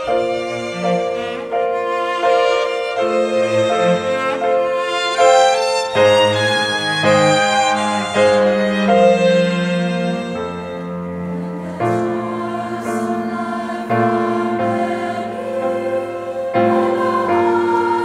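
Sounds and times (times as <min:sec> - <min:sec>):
low bowed strings: 0:00.0 - 0:18.0
solo violin melody: 0:00.0 - 0:18.0.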